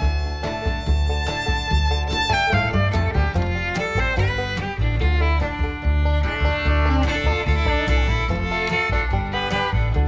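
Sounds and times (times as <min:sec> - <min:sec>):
fiddle tune: 0:00.0 - 0:10.0.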